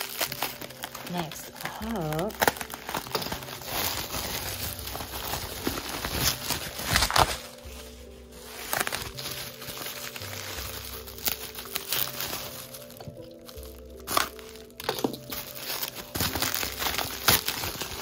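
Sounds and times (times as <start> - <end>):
bubble wrap crinkling: 0.0 - 18.0
soft background music: 0.0 - 18.0.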